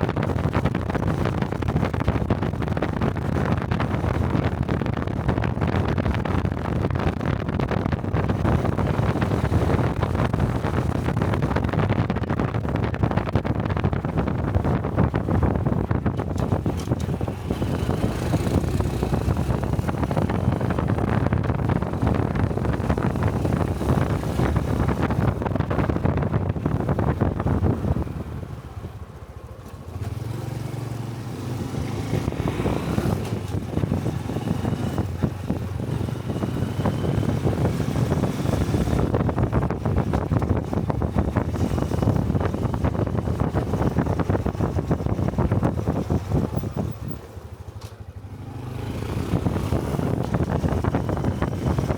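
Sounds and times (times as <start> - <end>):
motorcycle engine running: 0.0 - 51.9
wind rushing over microphone: 0.0 - 51.9.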